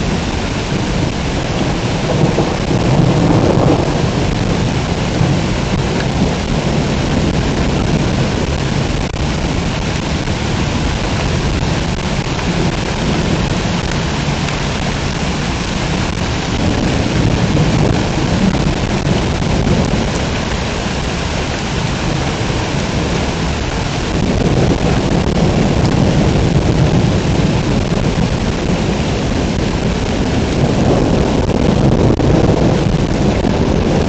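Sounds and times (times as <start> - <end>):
heavy rain pouring: 0.0 - 34.0
low thunder rumble: 0.0 - 34.0.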